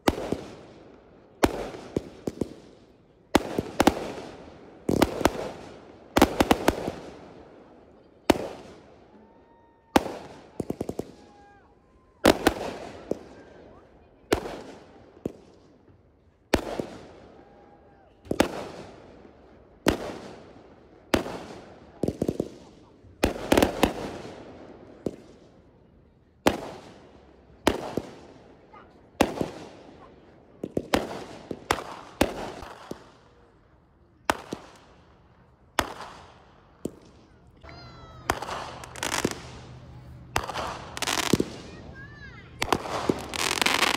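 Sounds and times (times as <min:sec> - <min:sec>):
fireworks bursting: 0:00.0 - 0:13.6, 0:14.3 - 0:15.8, 0:16.5 - 0:17.6, 0:18.2 - 0:25.6, 0:26.4 - 0:33.6, 0:34.2 - 0:35.1, 0:35.7 - 0:43.9
crackling firework bursts: 0:00.0 - 0:15.8, 0:16.5 - 0:25.7, 0:26.4 - 0:33.6, 0:34.2 - 0:43.9.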